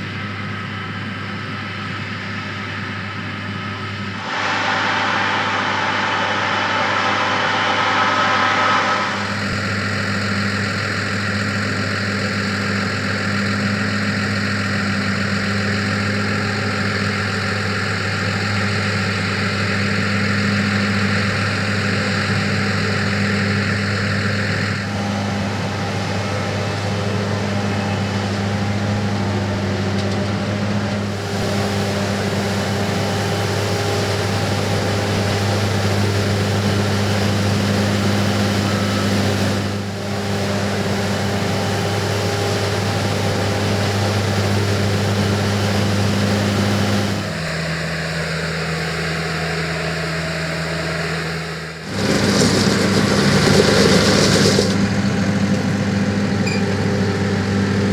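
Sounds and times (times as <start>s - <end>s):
low engine hum: 0.0s - 57.9s
machinery rush: 2.1s - 57.9s.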